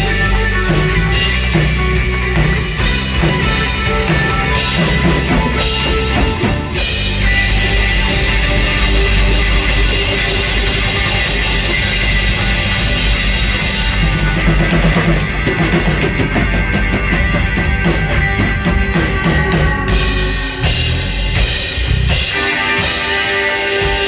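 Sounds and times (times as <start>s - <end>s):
live band playing: 0.0s - 24.0s.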